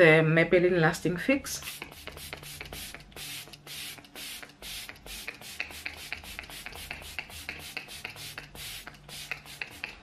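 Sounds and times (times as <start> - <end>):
spray bottle hissing: 1.6 - 10.0.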